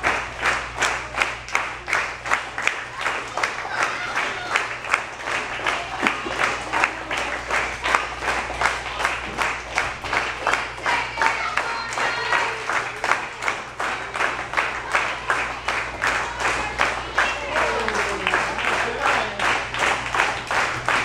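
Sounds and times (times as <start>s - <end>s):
spectators clapping in rhythm: 0.0s - 21.0s.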